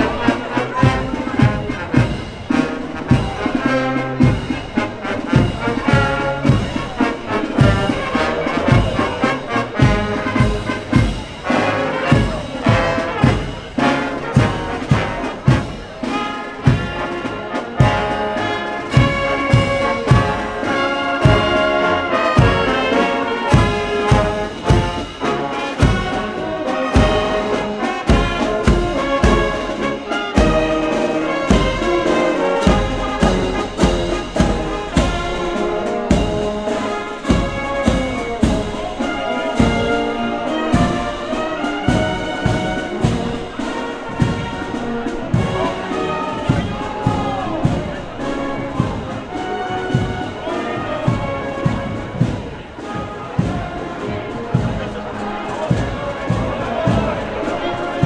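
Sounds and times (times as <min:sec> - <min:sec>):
marching brass band playing: 0:00.0 - 0:58.0
steady drum beat: 0:00.0 - 0:58.0.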